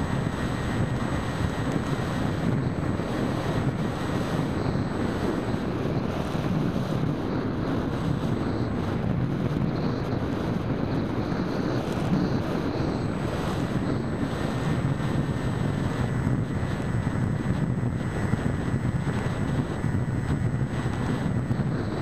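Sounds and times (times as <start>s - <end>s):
faint high whine: 0.0s - 22.0s
wind rushing over microphone: 0.0s - 22.0s.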